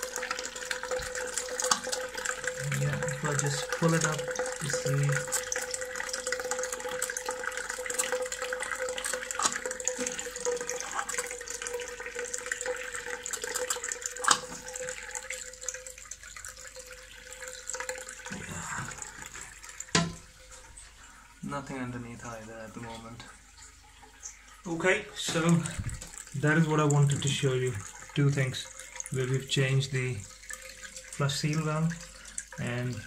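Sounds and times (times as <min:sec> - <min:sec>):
toilet cistern refilling hiss: 0:00.0 - 0:33.0.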